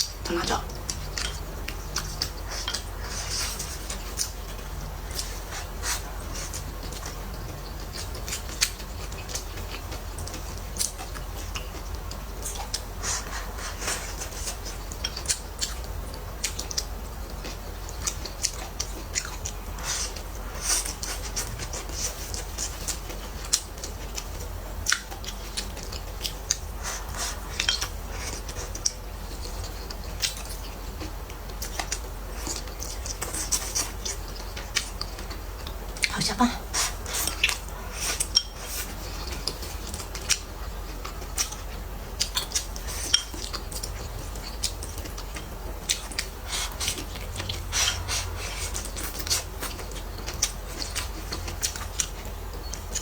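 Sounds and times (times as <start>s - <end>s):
chewing and mouth sounds: 0.0s - 53.0s
sharp crackles of food: 0.0s - 53.0s.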